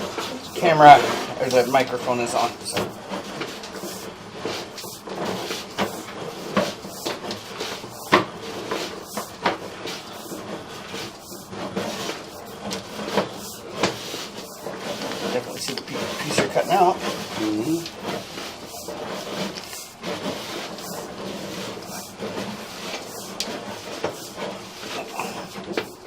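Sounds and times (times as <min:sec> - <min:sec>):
camera knocking and scraping in pipe: 0:00.0 - 0:26.0.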